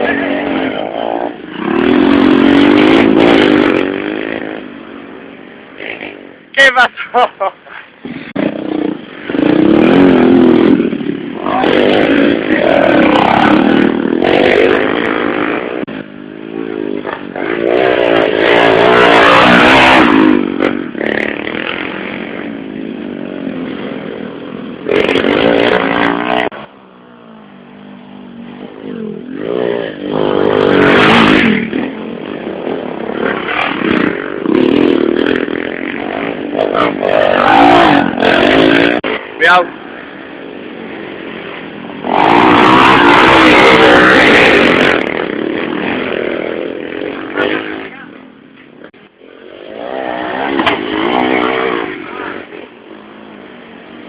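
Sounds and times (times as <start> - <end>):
race motorcycles revving and passing: 0.0 - 54.0.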